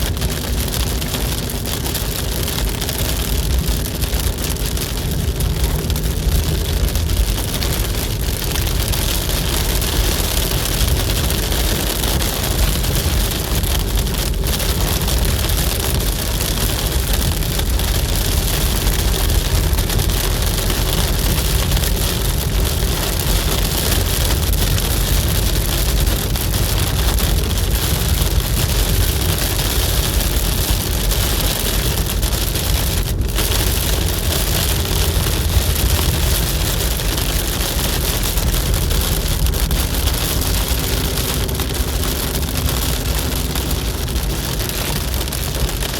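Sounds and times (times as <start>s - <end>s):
road rumble inside moving car: 0.0s - 45.9s.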